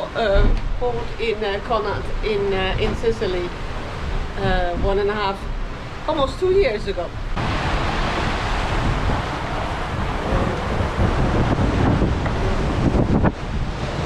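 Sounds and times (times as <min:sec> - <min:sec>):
sea water rushing: 0:00.0 - 0:14.0
wind buffeting microphone: 0:00.0 - 0:14.0.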